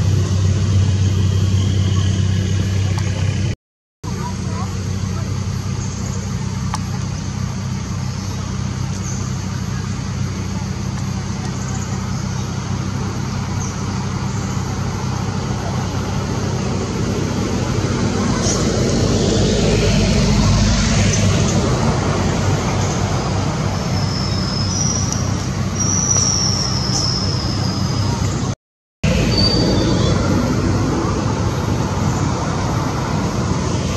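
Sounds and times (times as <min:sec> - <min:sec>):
motor traffic engine drone: 0:00.0 - 0:33.9.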